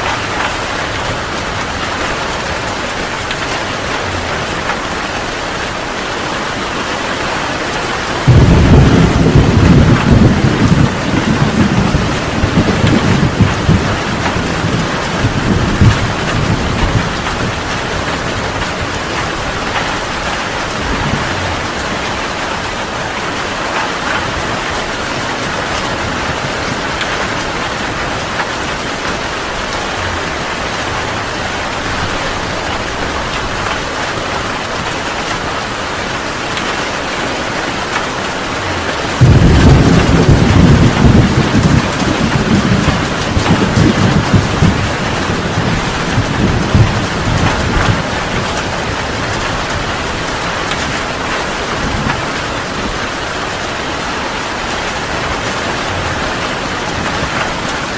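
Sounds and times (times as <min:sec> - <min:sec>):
heavy rain pouring: 0:00.0 - 0:57.9
thunder rumbling: 0:00.0 - 0:57.9.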